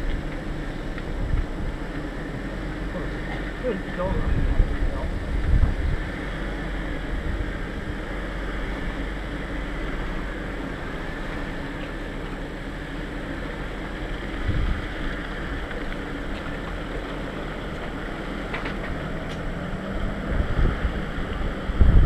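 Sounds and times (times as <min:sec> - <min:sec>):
vehicle engine and tyre rumble: 0:00.0 - 0:22.0
vehicle thumping over ruts: 0:00.0 - 0:22.0.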